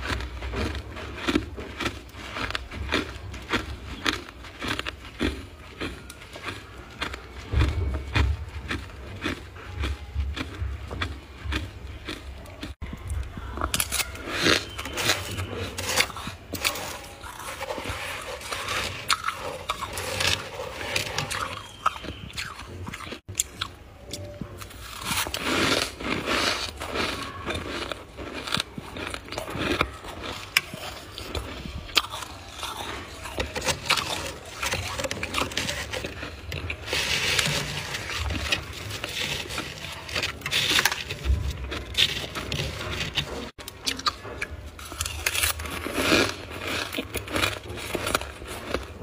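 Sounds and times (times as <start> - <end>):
frost being chewed crunching: 0.0 - 49.0.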